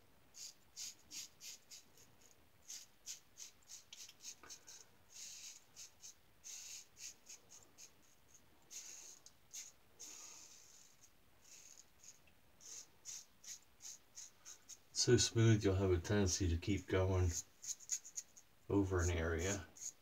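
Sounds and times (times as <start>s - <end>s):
razor scraping stubble: 0.4s - 15.4s, 16.1s - 20.0s.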